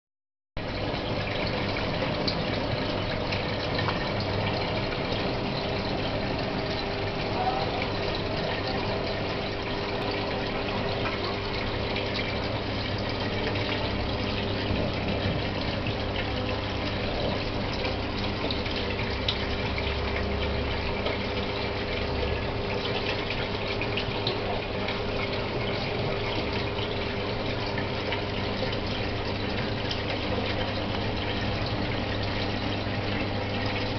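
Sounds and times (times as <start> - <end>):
pump humming: 0.6 - 33.9
water splashing and trickling: 0.6 - 33.9.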